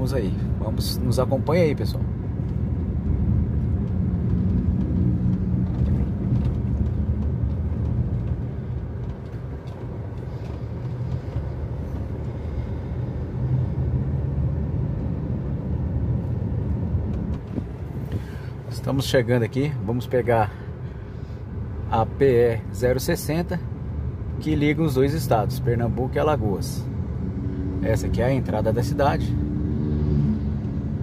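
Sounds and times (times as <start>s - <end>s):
car engine and road noise: 0.0s - 31.0s.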